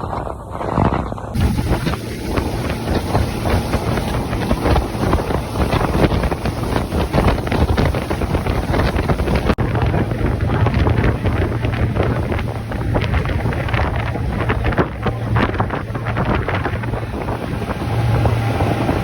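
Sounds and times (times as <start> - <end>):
boat engine on water: 0.0 - 19.0
wind buffeting microphone: 0.0 - 19.0.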